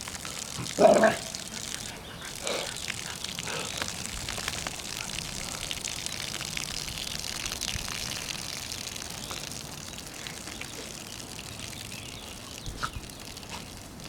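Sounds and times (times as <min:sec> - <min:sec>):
lawn sprinkler spraying: 0:00.0 - 0:14.0.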